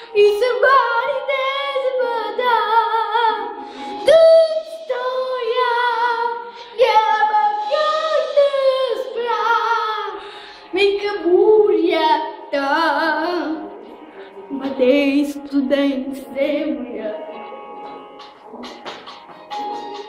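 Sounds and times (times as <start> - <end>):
girl singing: 0.0 - 13.8, 14.5 - 17.4.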